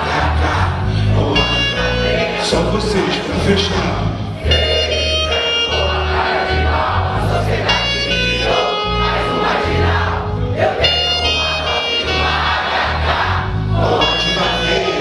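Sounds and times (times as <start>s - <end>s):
crowd voices: 0.0s - 15.0s
saxophone long held notes: 1.1s - 15.0s.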